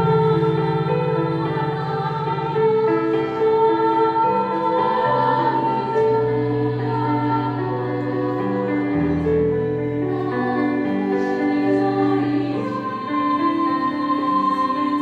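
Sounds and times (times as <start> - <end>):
choir singing in parts: 0.0 - 15.0.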